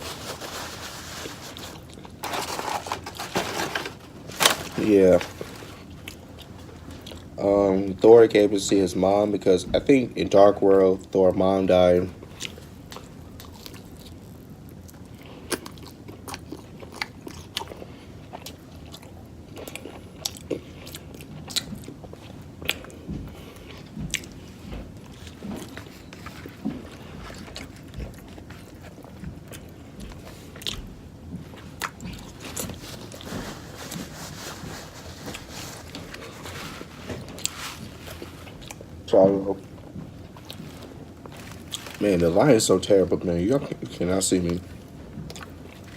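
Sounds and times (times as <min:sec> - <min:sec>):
person chewing crunchy food: 0:00.0 - 0:07.4, 0:12.2 - 0:39.1, 0:39.7 - 0:42.2, 0:44.6 - 0:45.9.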